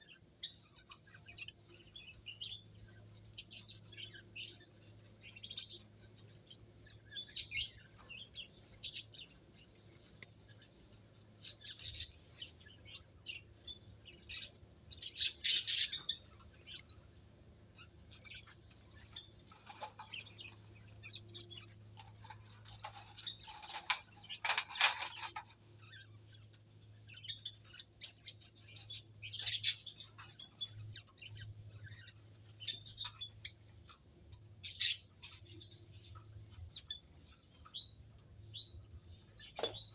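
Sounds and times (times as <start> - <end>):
small birds chirping: 0.0 - 39.9
steady low hum: 0.0 - 39.9.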